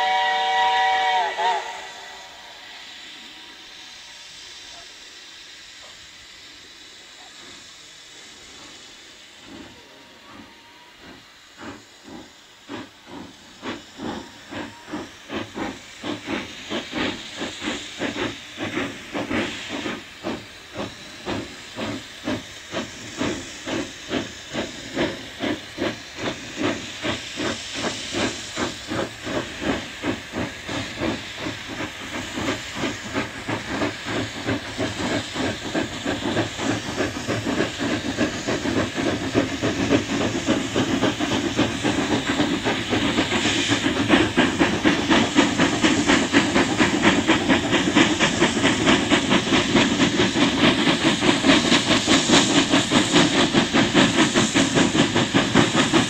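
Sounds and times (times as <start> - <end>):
steady steam hiss: 0.0 - 56.0
steam locomotive exhaust beats: 0.0 - 56.0.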